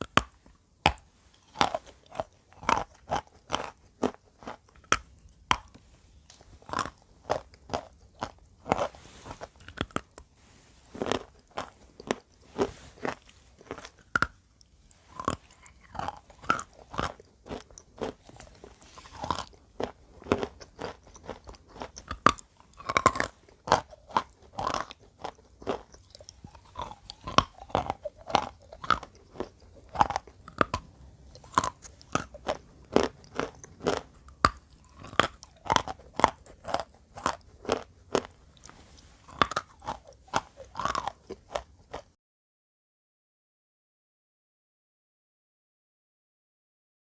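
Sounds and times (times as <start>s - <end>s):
chalk crunching while chewed: 0.0s - 42.1s.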